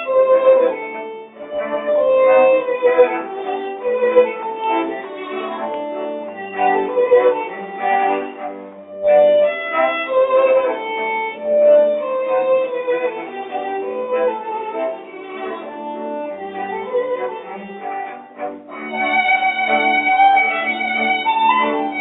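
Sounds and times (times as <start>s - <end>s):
instrumental music with bowed notes: 0.0s - 22.0s.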